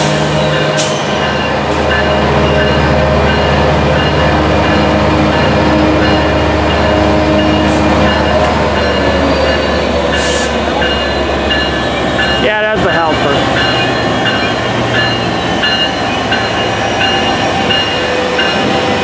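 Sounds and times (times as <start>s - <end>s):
locomotive engine hum: 0.0s - 19.0s.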